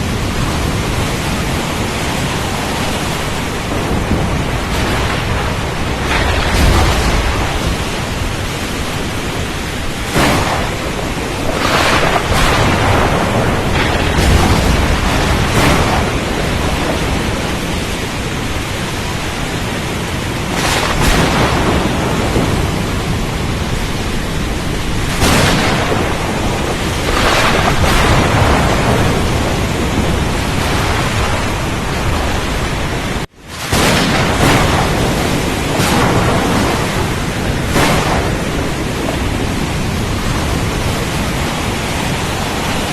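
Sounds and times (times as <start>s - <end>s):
rain: 0.0s - 42.9s
waves: 0.0s - 42.9s
wind roaring: 0.0s - 42.9s.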